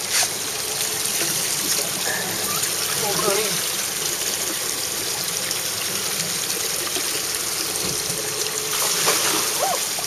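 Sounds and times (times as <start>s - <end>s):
running trickling water: 0.0s - 10.0s.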